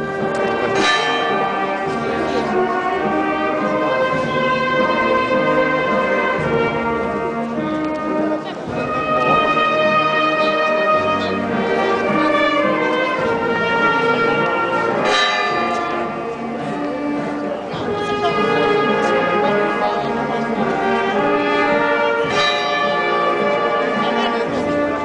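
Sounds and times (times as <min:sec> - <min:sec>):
brass band playing a slow march: 0:00.0 - 0:25.0.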